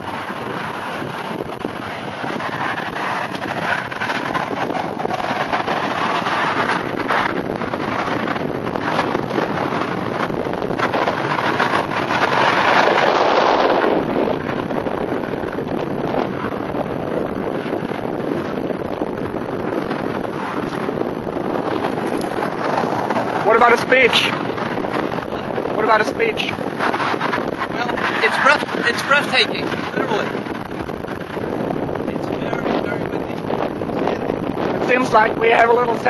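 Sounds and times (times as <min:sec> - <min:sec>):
gusty wind on microphone: 0:00.0 - 0:36.0.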